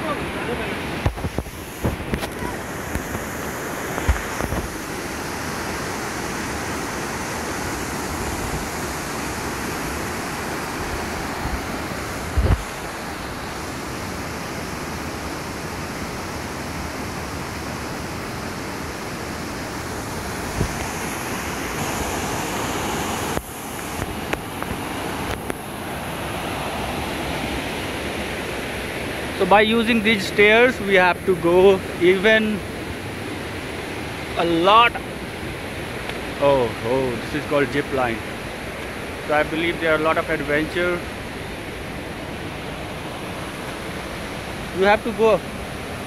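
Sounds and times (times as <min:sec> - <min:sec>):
stream rushing: 0:00.0 - 0:46.0.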